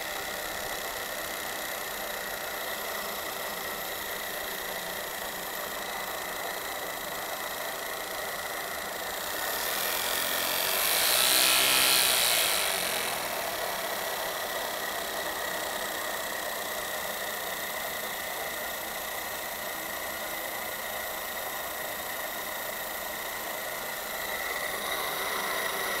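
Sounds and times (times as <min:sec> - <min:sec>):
light mechanical whirr: 0:00.0 - 0:26.0.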